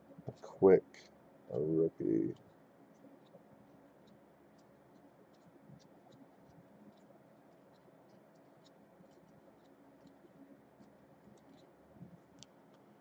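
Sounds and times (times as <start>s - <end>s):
trading cards ticking and scratching: 0.3s - 13.0s.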